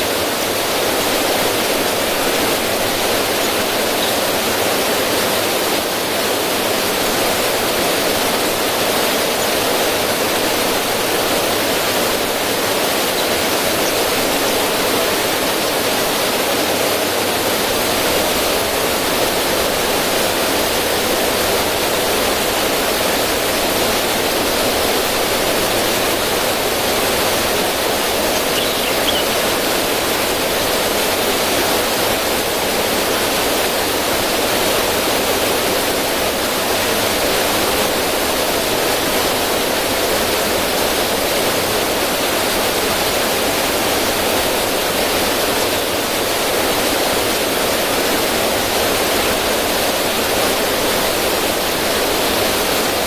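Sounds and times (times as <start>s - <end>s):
river water rushing over stones: 0.0s - 53.0s.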